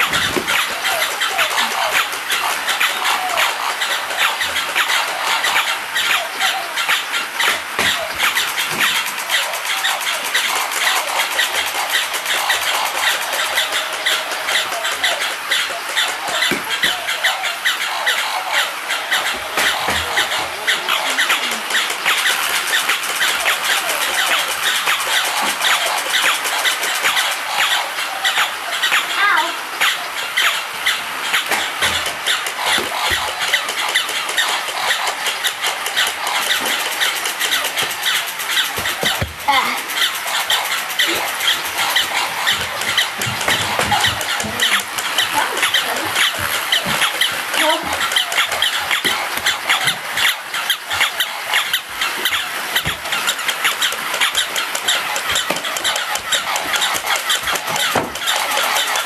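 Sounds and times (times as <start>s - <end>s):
rapid clicking: 0.0s - 59.0s
toy motors and gears running: 0.0s - 59.0s.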